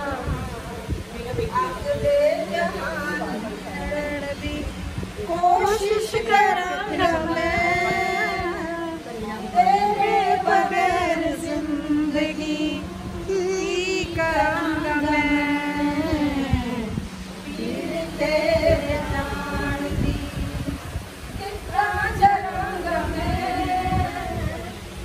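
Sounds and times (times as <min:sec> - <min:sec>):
women singing unaccompanied: 0:00.0 - 0:25.0.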